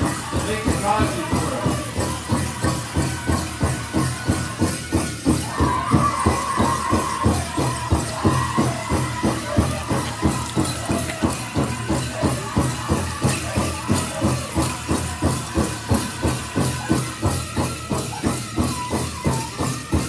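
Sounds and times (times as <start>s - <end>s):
big drum beaten steadily: 0.0s - 20.0s
jingling bells: 0.0s - 20.0s.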